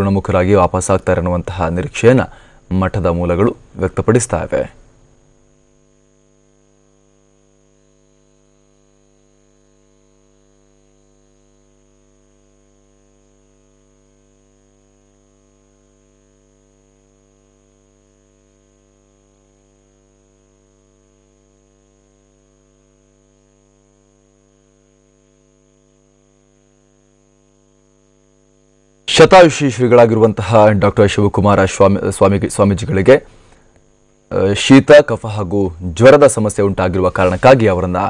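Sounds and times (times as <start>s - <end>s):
electrical mains hum: 0.0s - 38.0s
thin high whine: 0.0s - 38.0s.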